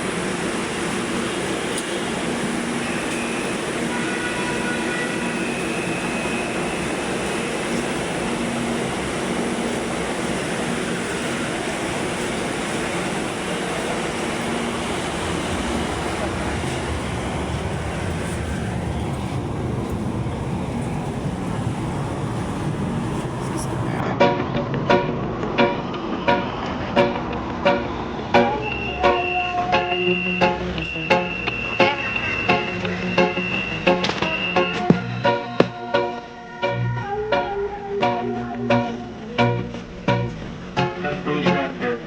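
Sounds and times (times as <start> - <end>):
high whining tones: 0.0 - 24.0, 27.7 - 37.9
train rumbling on track: 0.0 - 36.8.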